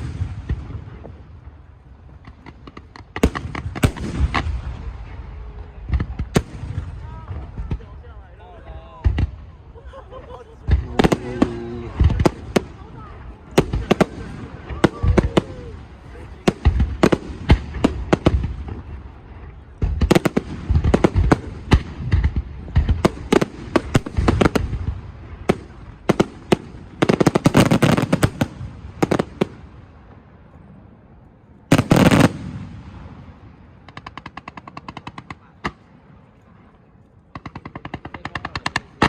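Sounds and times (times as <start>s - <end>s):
fireworks bangs and crackling: 0.0s - 30.5s, 31.6s - 39.0s.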